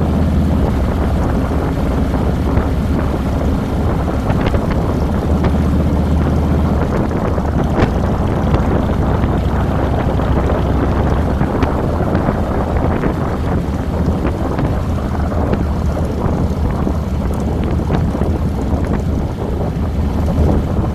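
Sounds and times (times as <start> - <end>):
motorcycle engine running: 0.0 - 20.9
wind rushing over microphone: 0.0 - 20.9.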